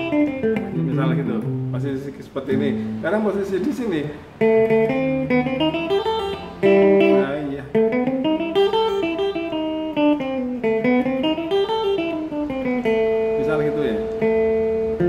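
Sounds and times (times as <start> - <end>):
electric guitar melody: 0.0 - 15.0.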